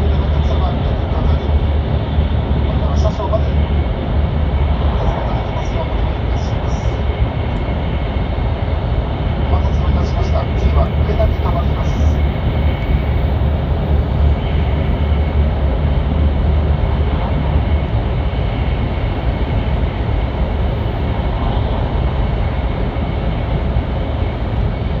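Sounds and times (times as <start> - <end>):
train cabin rumble and hiss: 0.0 - 25.0.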